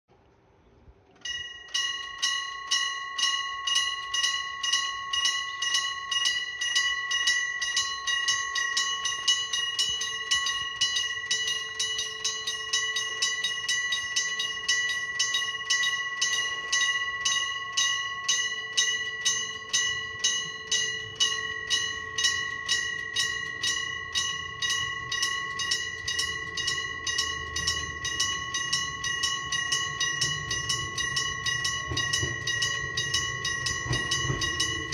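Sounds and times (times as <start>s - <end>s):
level crossing warning bell ringing: 1.2s - 34.9s.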